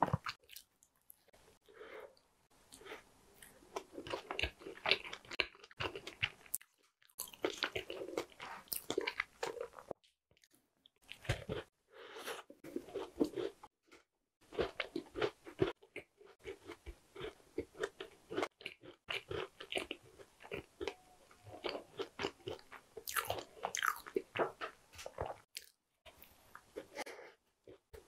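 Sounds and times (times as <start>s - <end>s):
person chewing crunchy pastry: 0.0s - 1.6s, 2.7s - 28.0s.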